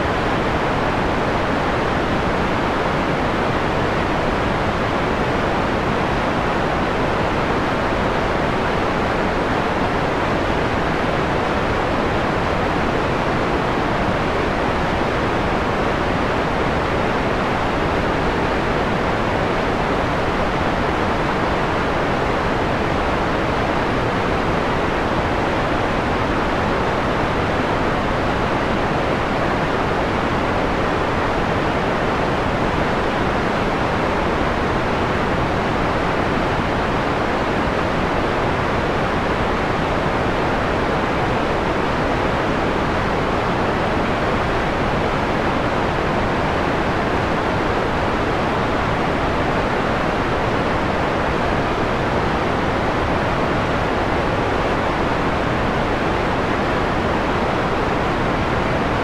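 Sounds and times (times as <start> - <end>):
filtered white noise: 0.0 - 59.0.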